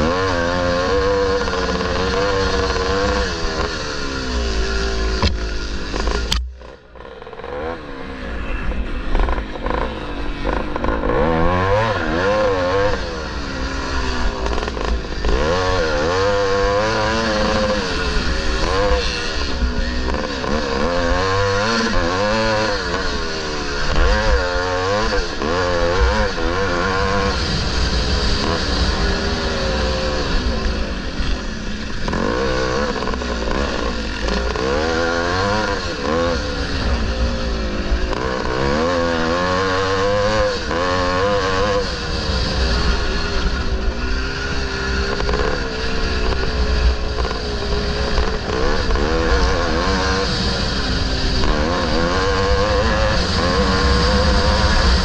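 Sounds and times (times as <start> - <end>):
two-stroke motorcycle engine revving: 0.0 - 55.0.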